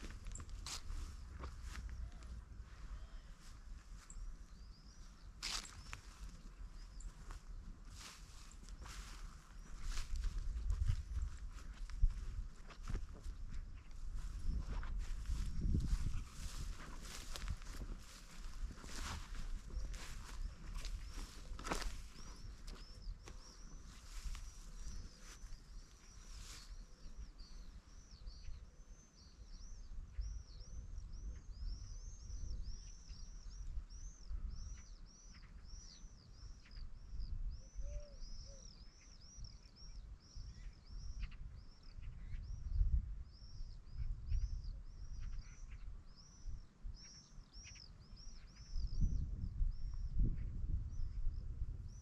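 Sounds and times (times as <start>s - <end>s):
low rumble of wind: 0.0s - 52.0s
small bird chirping: 2.9s - 52.0s.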